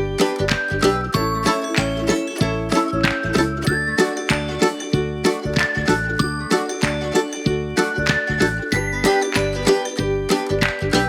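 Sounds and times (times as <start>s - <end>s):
tinkling bell-like music with beat: 0.0s - 11.0s.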